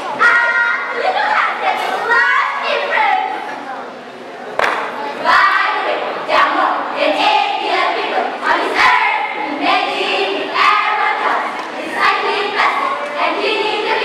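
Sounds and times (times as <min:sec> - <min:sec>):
girls reciting in unison: 0:00.0 - 0:03.4, 0:05.2 - 0:14.0.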